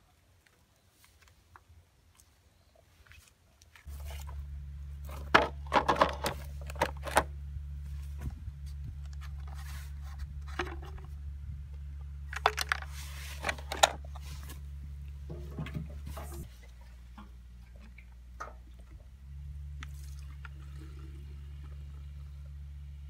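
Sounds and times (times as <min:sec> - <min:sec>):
steady low hum: 0:03.9 - 0:23.0.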